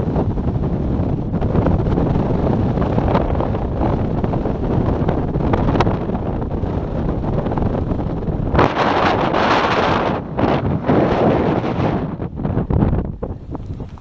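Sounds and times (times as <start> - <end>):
wind blowing on microphone: 0.0 - 14.0.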